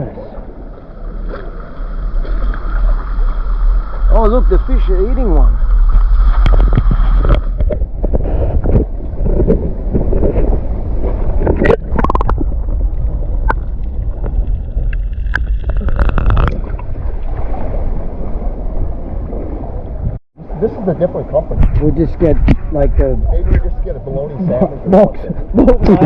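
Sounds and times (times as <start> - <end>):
wind buffeting microphone: 3.8 - 26.0.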